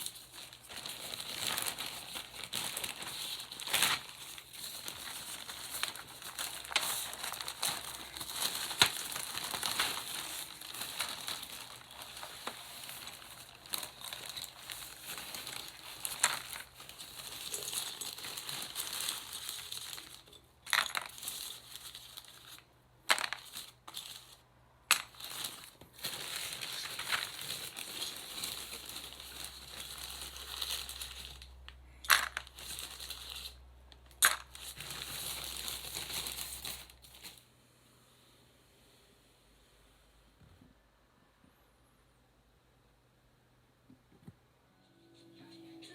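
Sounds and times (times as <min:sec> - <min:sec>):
plastic packaging crinkling: 0:00.0 - 0:37.4.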